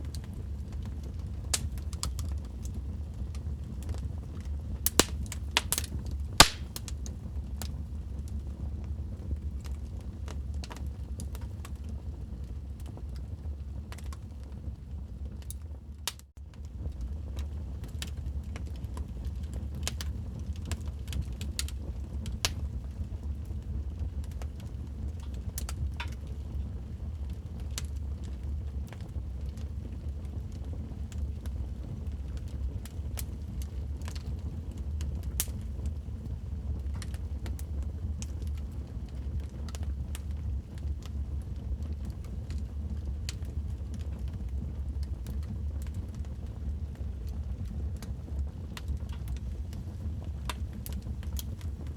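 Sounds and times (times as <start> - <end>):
fire crackling and popping: 0.0 - 51.9
low fire rumble: 0.0 - 51.9.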